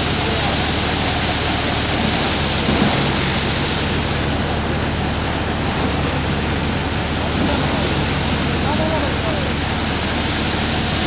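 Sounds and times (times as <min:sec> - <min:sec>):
tractor engine hum: 0:00.0 - 0:11.0.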